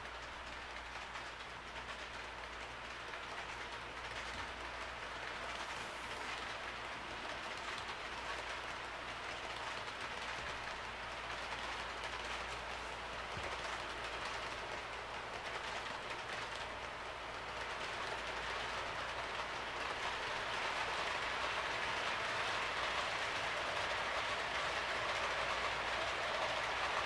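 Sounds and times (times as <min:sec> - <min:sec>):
model train rolling on rails: 0:00.0 - 0:27.0.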